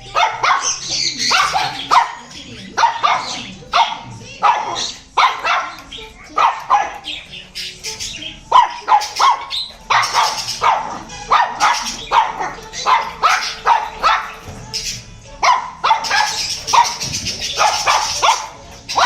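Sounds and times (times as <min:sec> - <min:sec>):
shrill harsh bird chirps: 0:00.0 - 0:19.0.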